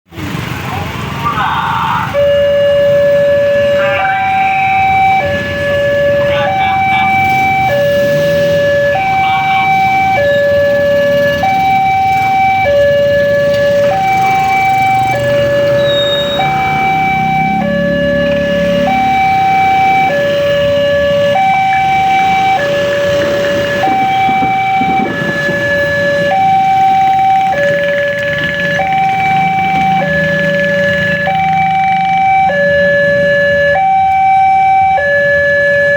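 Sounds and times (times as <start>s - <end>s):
level crossing two-tone alarm: 2.0s - 35.9s.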